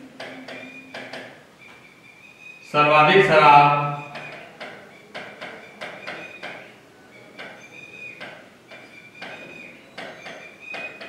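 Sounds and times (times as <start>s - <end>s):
marker pen squeaking on whiteboard: 0.2s - 11.0s.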